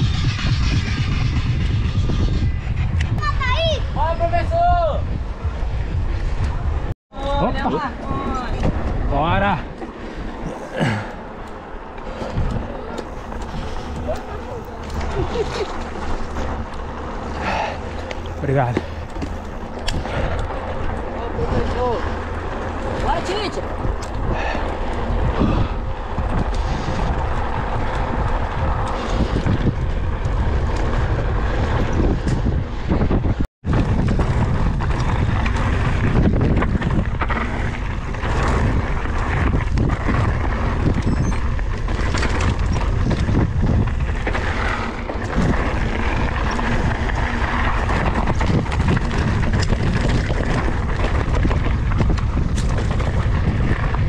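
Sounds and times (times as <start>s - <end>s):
bike tyres on dirt: 0.0s - 54.0s
wind buffeting microphone: 0.0s - 54.0s
bike knocking and rattling: 5.4s - 54.0s.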